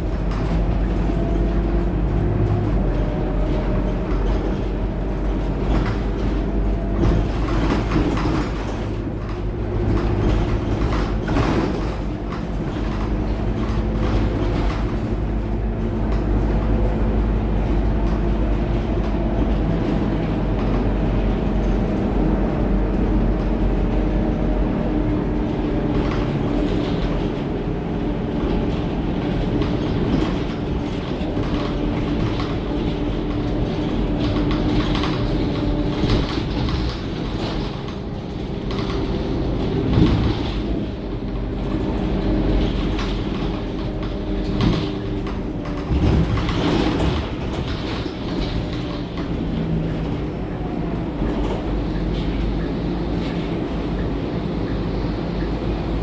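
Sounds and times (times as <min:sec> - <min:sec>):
bus body rattling: 0:00.0 - 0:56.0
bus diesel engine running: 0:00.0 - 0:56.0.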